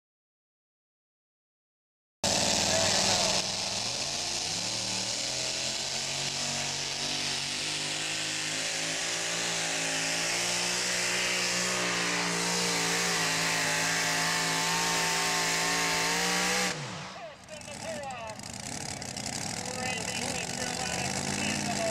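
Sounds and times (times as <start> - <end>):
truck engine at high revs: 2.2 - 21.9.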